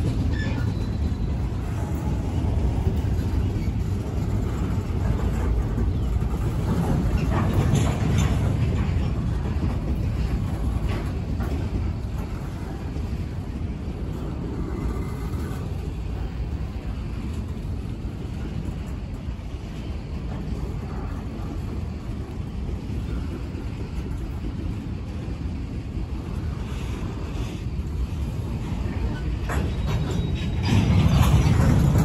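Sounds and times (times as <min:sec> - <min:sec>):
train cars clanking: 0:00.0 - 0:32.0
train wheels rumbling on rail: 0:00.0 - 0:32.0.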